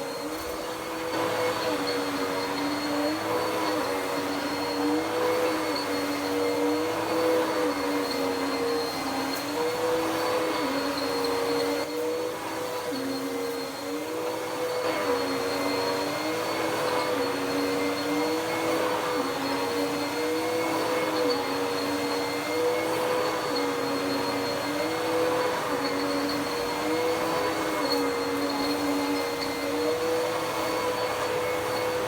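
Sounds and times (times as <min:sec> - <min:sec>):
vacuum cleaner running on carpet: 0:00.0 - 0:32.0.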